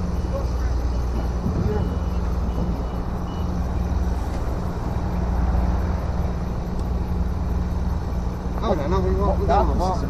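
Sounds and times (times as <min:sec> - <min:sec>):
heavy engine humming: 0:00.0 - 0:10.0.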